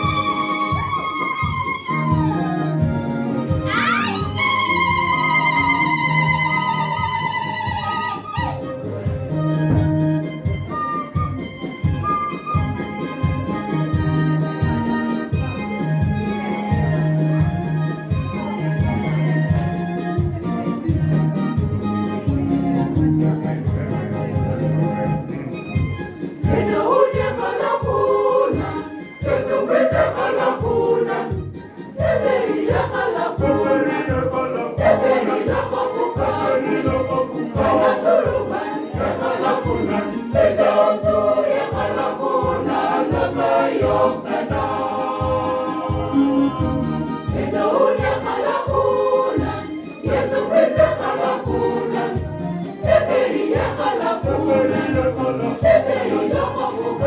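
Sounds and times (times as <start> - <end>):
choir singing a carol: 0.0 - 11.3, 12.2 - 57.0.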